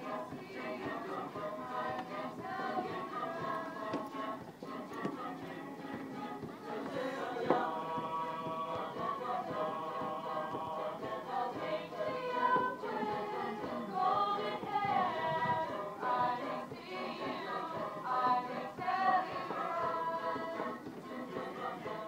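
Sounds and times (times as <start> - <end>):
group singing over loudspeakers: 0.0 - 22.0.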